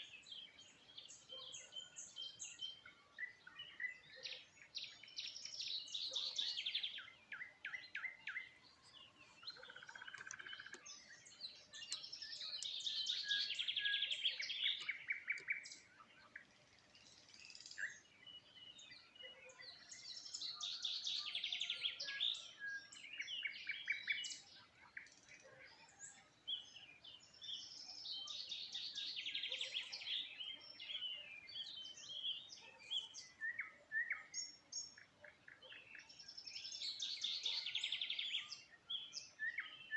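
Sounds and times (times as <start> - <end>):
bird chirps: 0.0 - 39.9
bird trilled song: 0.0 - 39.9.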